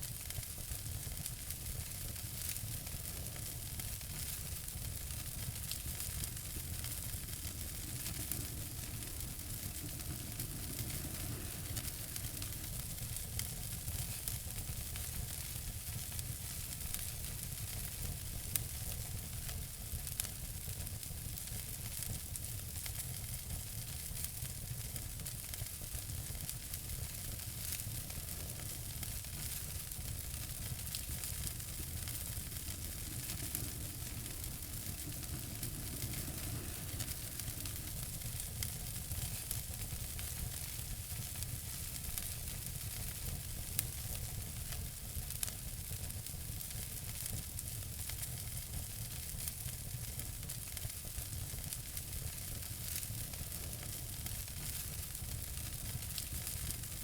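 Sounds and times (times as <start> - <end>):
wood fire crackling and hissing: 0.0 - 57.0.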